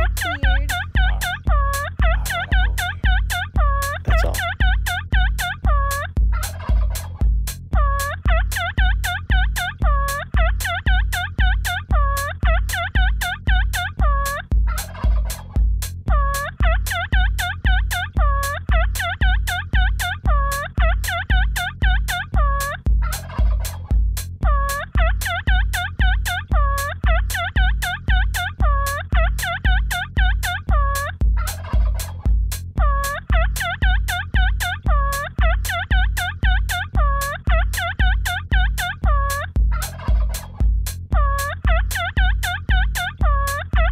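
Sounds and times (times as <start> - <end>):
electronic dance track of gobble sounds: 0.0 - 43.9
kick drum: 0.0 - 43.9.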